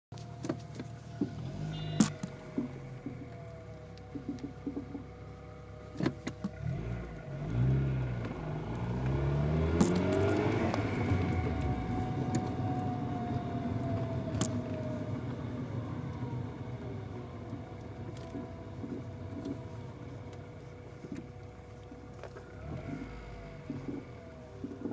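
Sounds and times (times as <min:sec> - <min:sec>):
whining tone: 0:00.2 - 0:24.9
car engine revving: 0:00.4 - 0:24.9.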